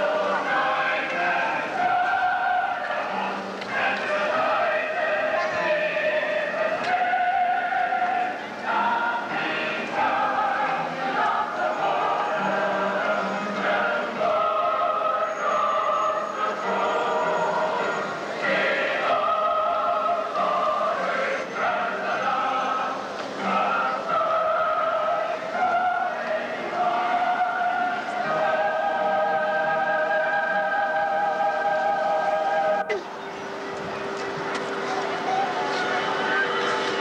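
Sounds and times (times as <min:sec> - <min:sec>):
choir singing sustained chords: 0:00.0 - 0:37.0.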